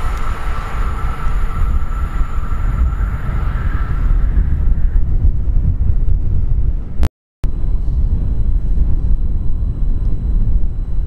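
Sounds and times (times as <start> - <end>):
high-speed train whine: 0.0 - 6.0, 6.6 - 11.0
wind rumble on microphone: 0.0 - 11.0.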